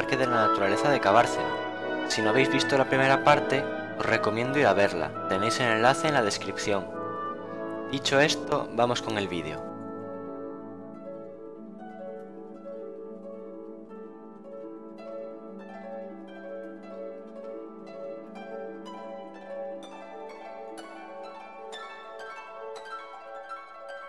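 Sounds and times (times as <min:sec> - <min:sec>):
slow harp-like melody: 0:00.0 - 0:24.0.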